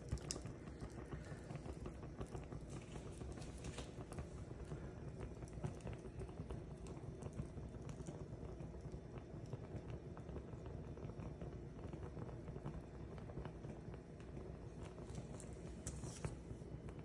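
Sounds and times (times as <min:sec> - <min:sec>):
paper burning and crackling: 0:00.0 - 0:17.0.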